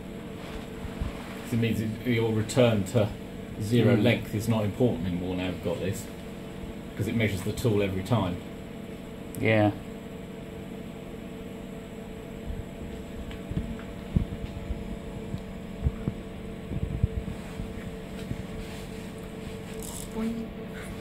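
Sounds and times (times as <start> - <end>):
mill machine humming: 0.0 - 21.0.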